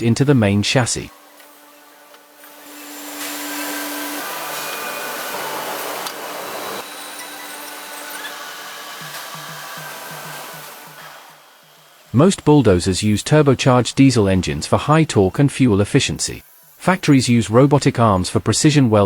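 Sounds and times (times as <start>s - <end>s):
hissing machine noise: 0.0s - 19.0s.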